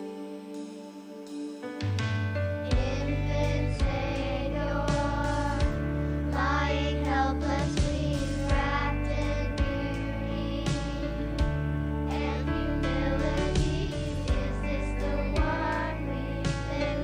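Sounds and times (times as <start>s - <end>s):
slow music with held bass notes: 0.0s - 17.0s.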